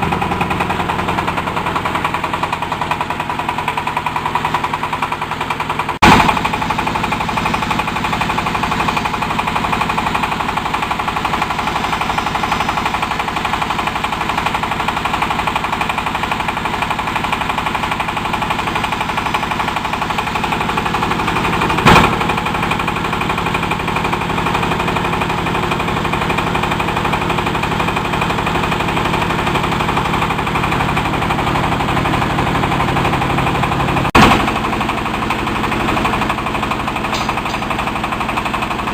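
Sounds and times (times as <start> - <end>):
pellet machine rattling: 0.0 - 38.9.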